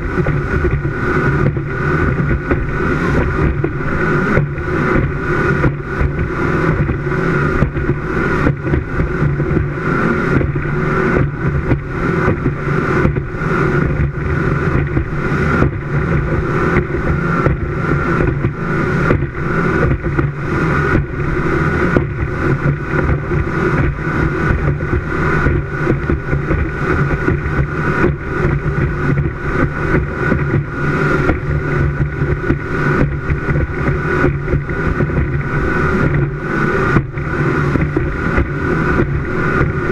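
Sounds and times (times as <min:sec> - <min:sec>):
speedboat engine running: 0:00.0 - 0:39.9
wind and water rushing: 0:00.0 - 0:39.9.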